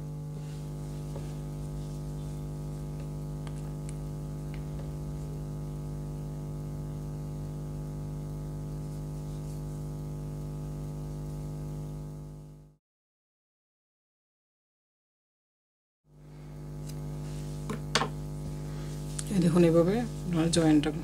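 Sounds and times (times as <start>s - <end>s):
electrical mains hum: 0.0s - 12.8s, 16.1s - 21.0s.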